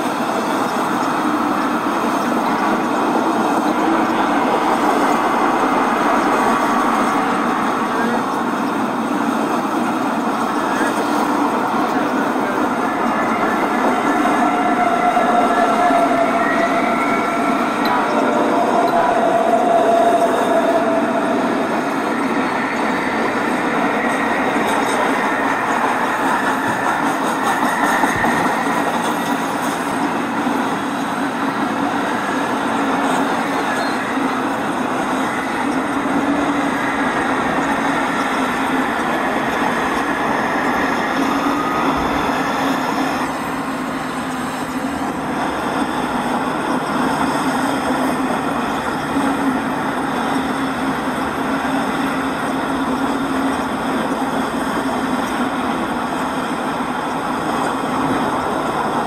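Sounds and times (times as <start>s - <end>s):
model trains rumbling: 0.0s - 59.0s.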